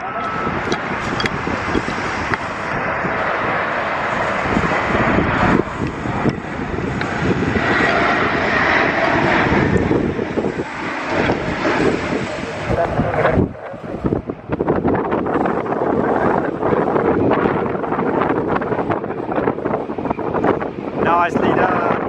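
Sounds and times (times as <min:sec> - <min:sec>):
airliner engines: 0:00.0 - 0:22.0
wind buffeting microphone: 0:00.0 - 0:22.0.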